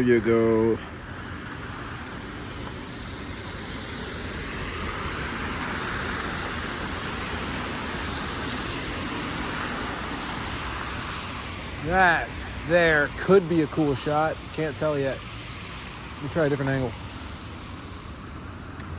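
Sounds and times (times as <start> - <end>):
car passing: 0.0 - 18.9
steady low traffic rumble: 0.0 - 18.9.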